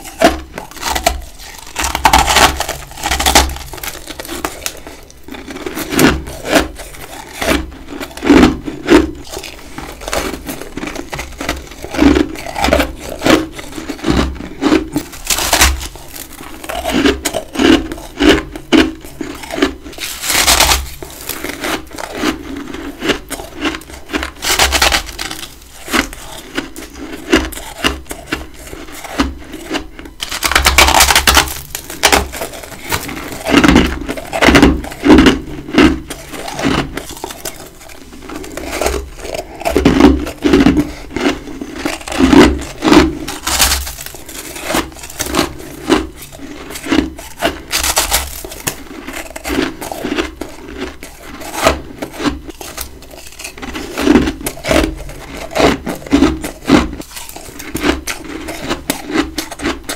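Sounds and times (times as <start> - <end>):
crunching frost being chewed: 0.0 - 59.9.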